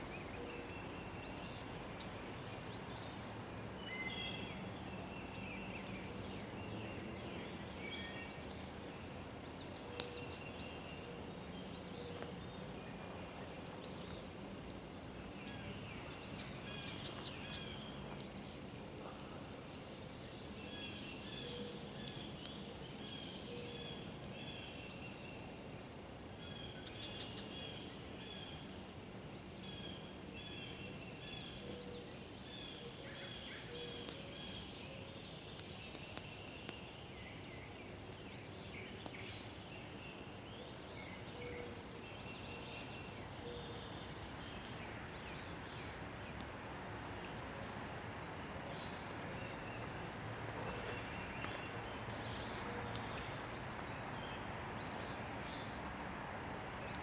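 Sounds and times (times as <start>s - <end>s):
songbirds chirping and whistling: 0.0s - 14.4s, 15.2s - 25.7s, 26.4s - 55.9s
outdoor background hiss: 0.0s - 57.0s.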